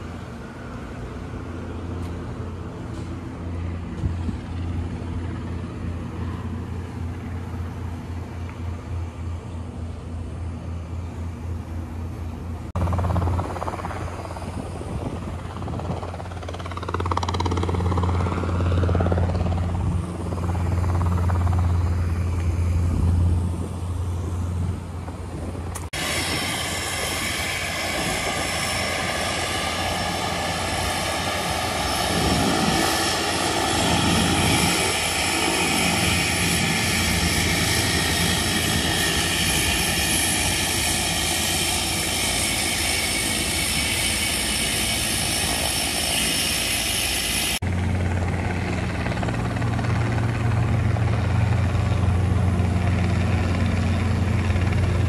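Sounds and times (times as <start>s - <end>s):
low engine drone: 0.0s - 55.0s
turboprop whine: 0.0s - 55.0s.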